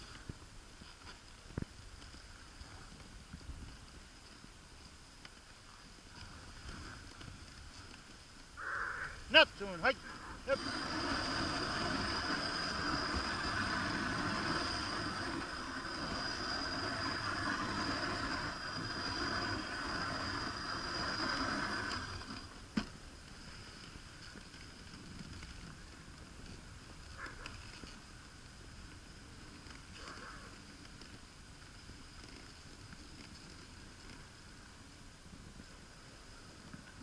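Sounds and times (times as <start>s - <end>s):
sled runners scraping snow: 0.0s - 37.0s.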